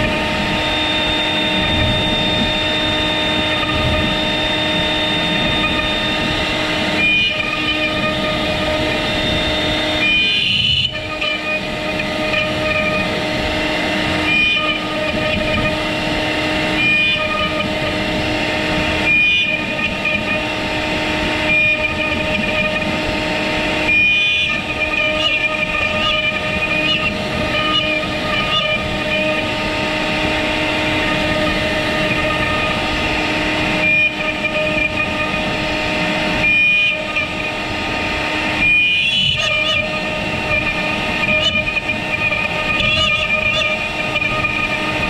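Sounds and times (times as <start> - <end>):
router spindle high whine: 0.0 - 45.0.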